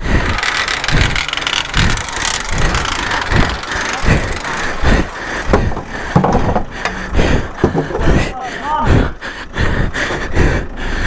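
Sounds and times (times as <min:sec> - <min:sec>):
noisy wash: 0:00.0 - 0:11.0
off-road engine running unevenly: 0:00.0 - 0:11.0.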